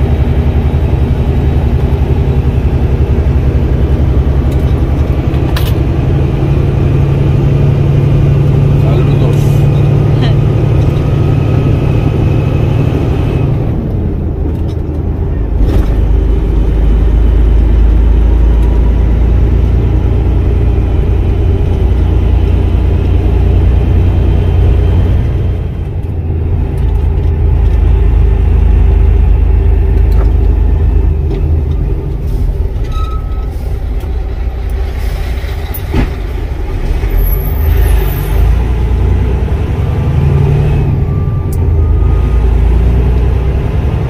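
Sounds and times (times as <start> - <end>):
diesel engine rumbling: 0.0 - 44.0
road noise: 0.0 - 44.0.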